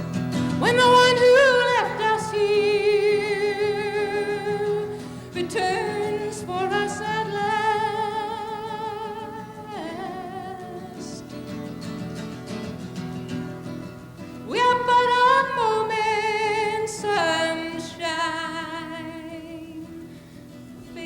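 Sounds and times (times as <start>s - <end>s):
acoustic guitar: 0.0s - 21.0s
woman singing folk song: 0.0s - 21.0s.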